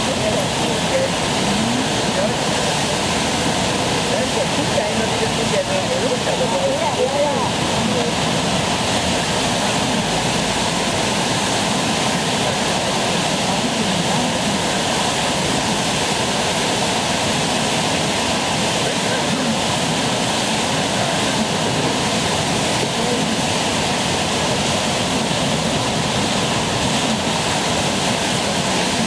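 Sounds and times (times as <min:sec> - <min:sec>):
whitewater rushing: 0:00.0 - 0:29.0.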